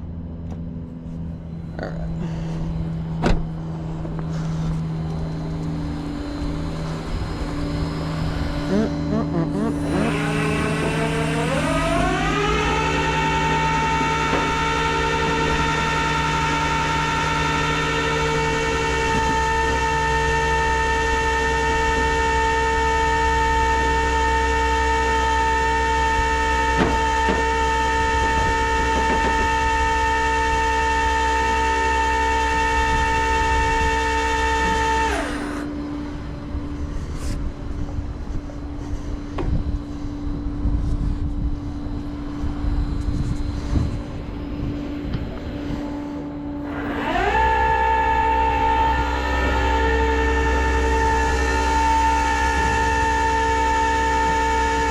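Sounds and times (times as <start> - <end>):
low steady hum: 0.0 - 54.9
hydraulic winch pump whining: 0.5 - 54.9.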